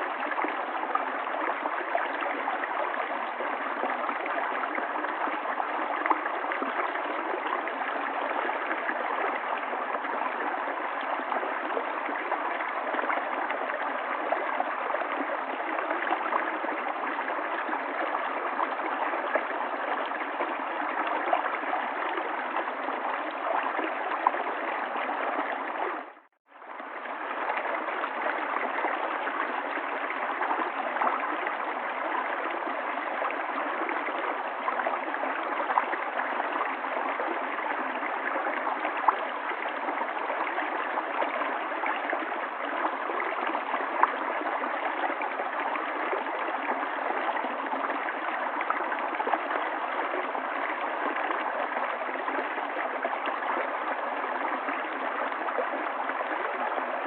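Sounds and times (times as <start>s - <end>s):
river water babbling: 0.0s - 57.0s.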